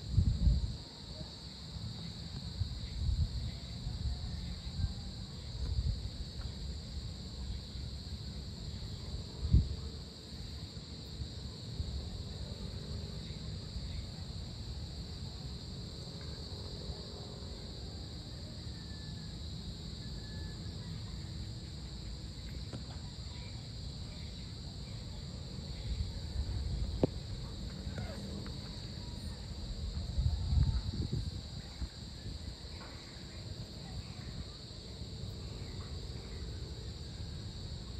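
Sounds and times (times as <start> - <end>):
crickets and insects chirping: 0.0 - 37.9.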